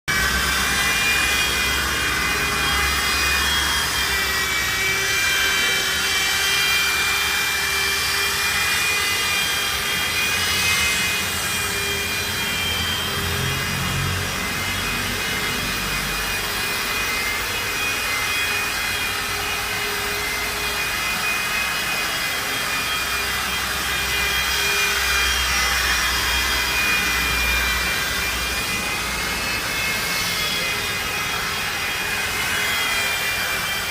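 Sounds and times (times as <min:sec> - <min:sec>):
electric polisher whining: 0:00.1 - 0:33.9.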